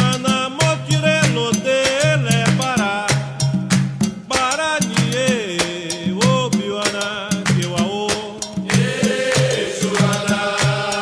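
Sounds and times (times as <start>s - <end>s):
person singing: 0.0s - 3.2s, 4.3s - 11.0s
drums and percussion: 0.0s - 11.0s.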